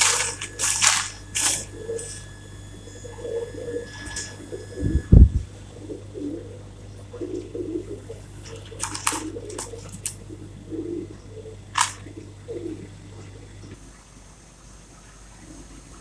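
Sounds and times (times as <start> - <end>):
low cooing calls: 0.0 - 13.8
steady low hum: 0.0 - 16.0.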